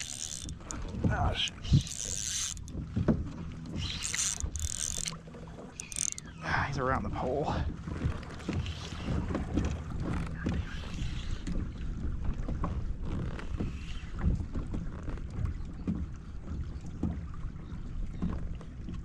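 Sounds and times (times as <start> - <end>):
water sloshing against plastic hull: 0.0 - 19.0.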